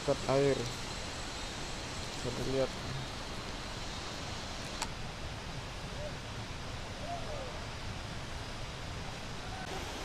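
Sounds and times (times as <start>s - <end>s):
waterfall and river rushing: 0.1s - 10.0s.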